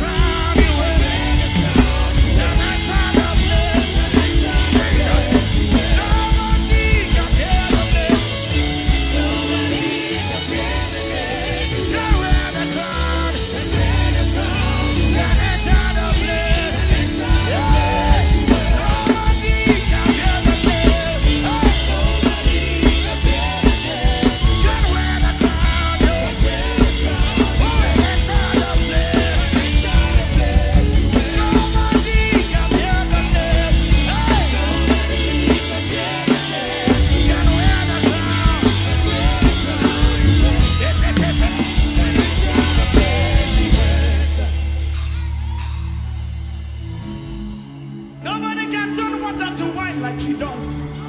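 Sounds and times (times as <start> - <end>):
drum kit played hard: 0.0 - 48.5
live band music: 0.0 - 51.0.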